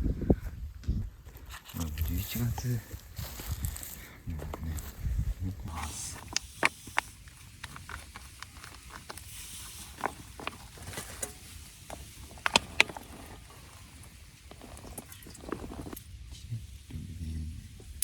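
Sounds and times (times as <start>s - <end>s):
low steady rumble: 1.8s - 18.0s.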